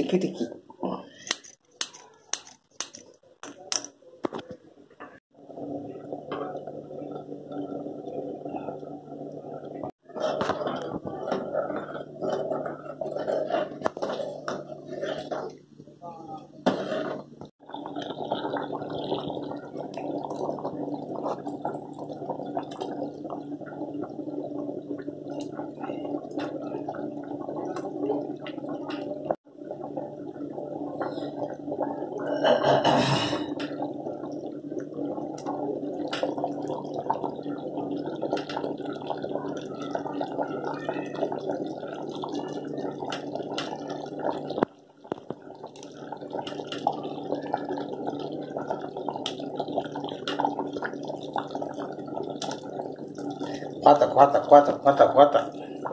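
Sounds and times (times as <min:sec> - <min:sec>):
thick gravy bubbling: 0:05.2 - 0:55.9.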